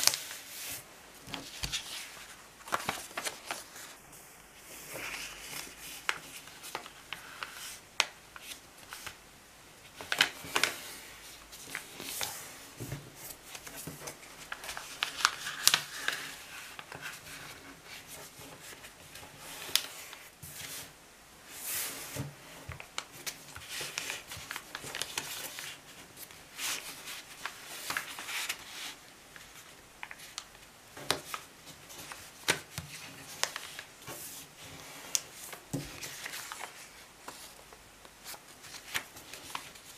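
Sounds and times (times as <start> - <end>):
paper fold crackles: 0.0 - 4.0, 4.6 - 9.2, 9.8 - 20.9, 21.7 - 39.9
paper rustling and sliding: 0.0 - 7.8, 9.9 - 39.9.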